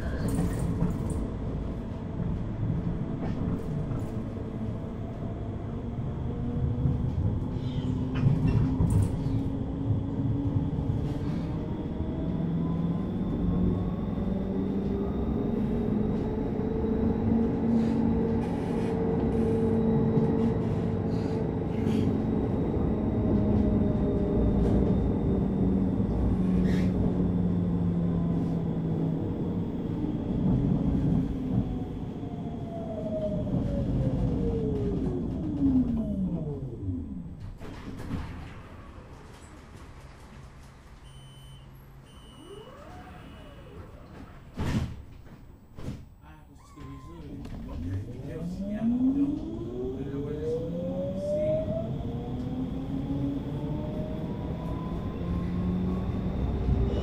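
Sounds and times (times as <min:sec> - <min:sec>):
tram electrical hum: 0:00.0 - 0:57.0.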